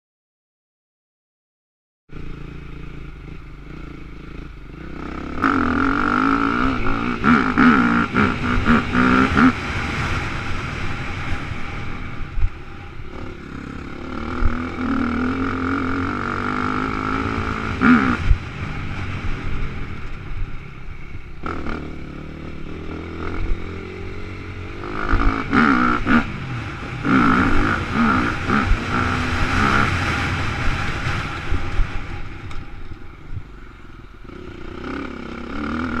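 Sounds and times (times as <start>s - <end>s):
dirt bike engine revving: 2.1s - 32.9s, 34.2s - 36.0s.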